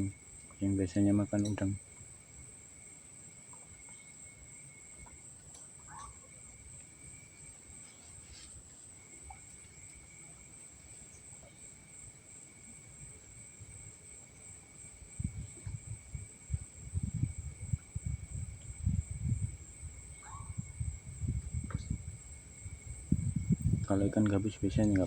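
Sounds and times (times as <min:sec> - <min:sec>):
insect buzzing call: 0:00.0 - 0:25.0
insect high-pitched trill: 0:00.0 - 0:25.0.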